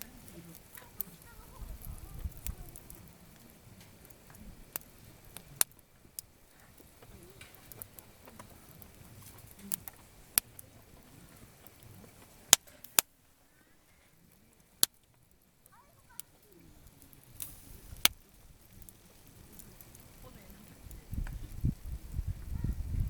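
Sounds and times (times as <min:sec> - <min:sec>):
campfire crackling: 0:00.0 - 0:23.0
faint low murmur: 0:00.0 - 0:23.0.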